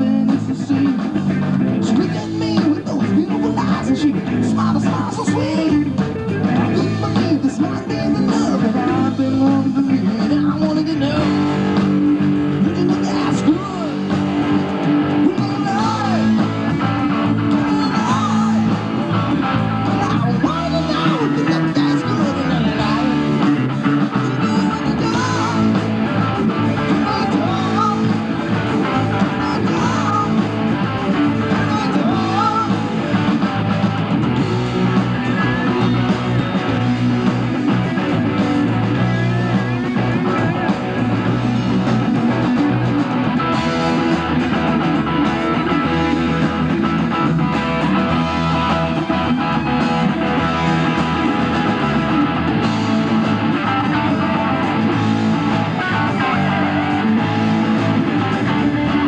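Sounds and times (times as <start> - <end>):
lead guitar bending notes: 0.0 - 59.0
rock band playing: 0.0 - 59.0.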